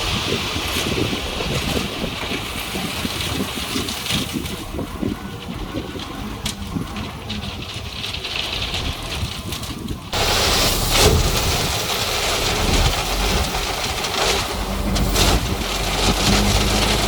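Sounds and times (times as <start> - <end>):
bulldozer diesel engine rumbling: 0.0 - 17.0.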